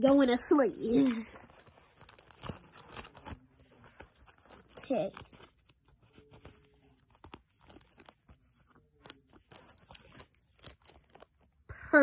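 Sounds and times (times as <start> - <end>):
plastic sleeves rustling: 0.6 - 11.7.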